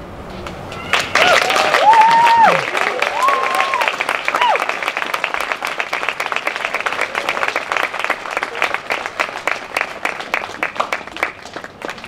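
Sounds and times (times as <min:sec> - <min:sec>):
audience applauding: 0:00.7 - 0:12.0.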